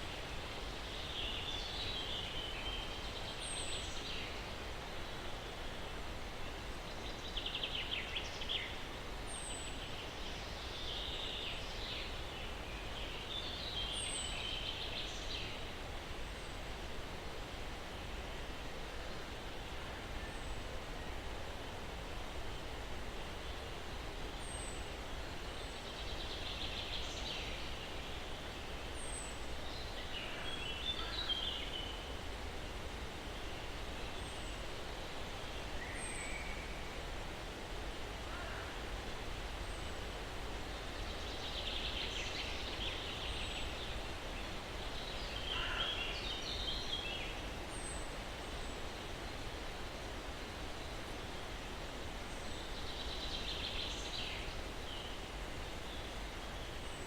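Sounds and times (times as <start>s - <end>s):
breeze in pine trees: 0.0s - 57.0s.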